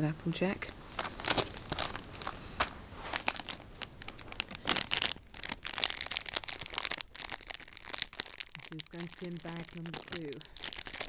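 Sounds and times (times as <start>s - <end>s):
foil packet crinkling: 0.8s - 11.0s.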